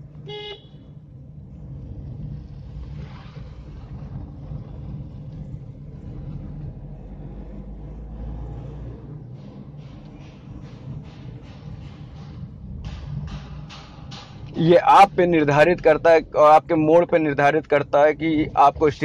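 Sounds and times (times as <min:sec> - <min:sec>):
deep low hum: 0:00.0 - 0:17.3
car engine and road rumble: 0:00.0 - 0:19.0.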